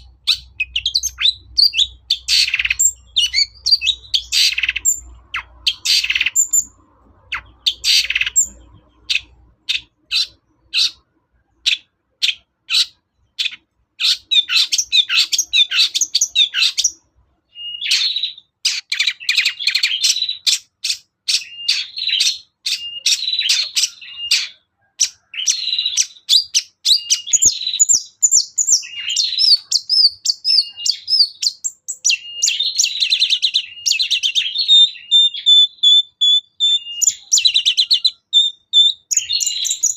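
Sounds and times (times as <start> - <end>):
shrike singing: 0.0 - 11.1, 17.6 - 39.9.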